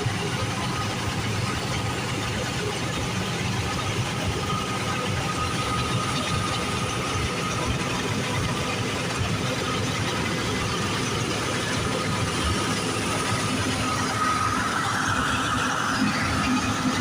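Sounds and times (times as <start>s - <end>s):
combine harvester engine drone: 0.0s - 17.0s
faint high machine whine: 0.0s - 17.0s.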